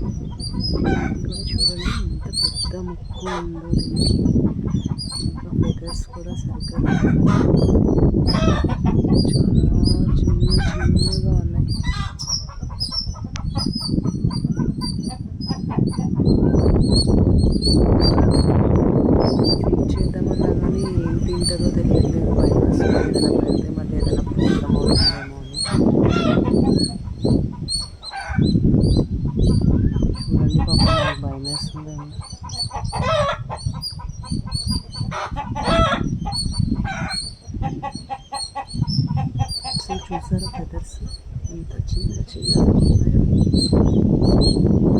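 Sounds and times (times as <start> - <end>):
birds chirping: 0.0 - 44.9
harsh bird calls: 0.0 - 44.9.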